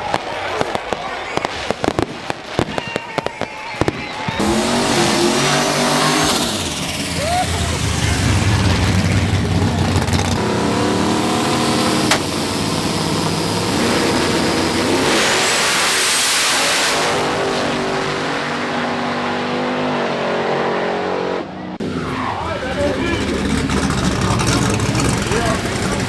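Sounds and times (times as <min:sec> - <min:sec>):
car engine revving: 0:04.4 - 0:26.0.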